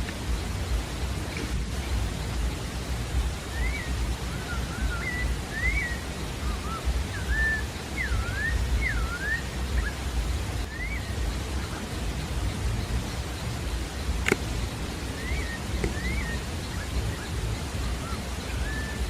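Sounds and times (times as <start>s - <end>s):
steady low rushing noise: 0.0s - 19.0s
bird singing whistled notes: 0.2s - 19.0s.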